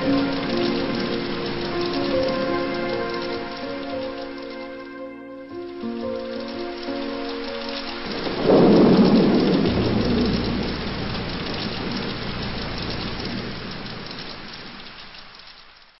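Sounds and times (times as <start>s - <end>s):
thunder rumbling: 0.0s - 15.4s
steady rain: 0.0s - 16.0s.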